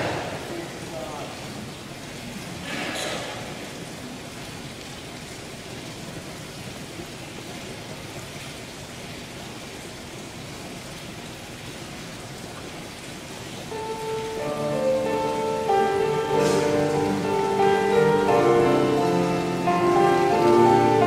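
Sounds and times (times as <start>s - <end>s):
steady room noise hiss: 0.0s - 21.0s.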